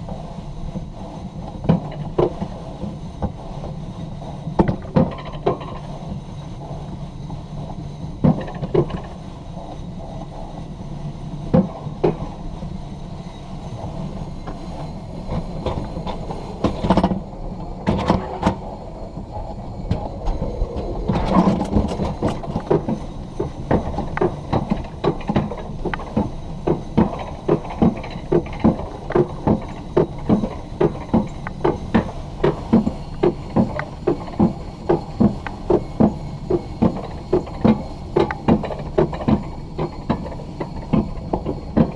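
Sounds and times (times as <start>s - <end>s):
sled rumbling on track: 0.0s - 41.9s.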